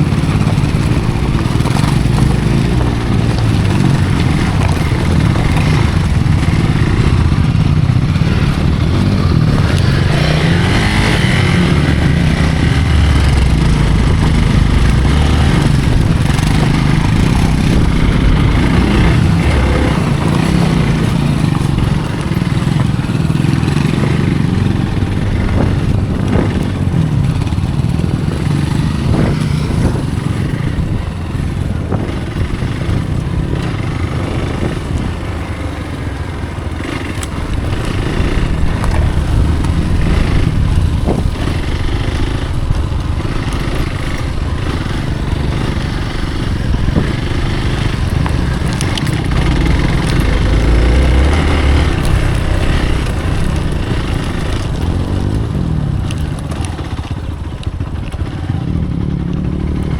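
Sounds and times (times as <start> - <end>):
knocks and clatter: 0.0 - 58.7
motorcycle engine running: 0.0 - 59.9.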